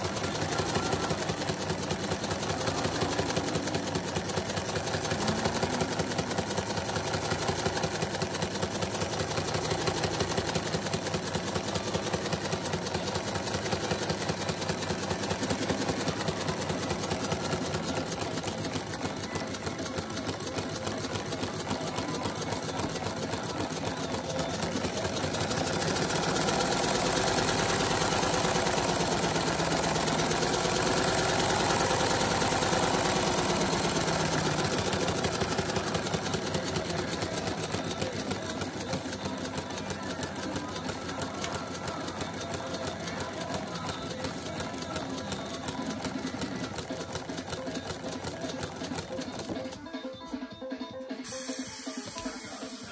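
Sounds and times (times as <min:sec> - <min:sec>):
pneumatic engine clattering: 0:00.0 - 0:49.8.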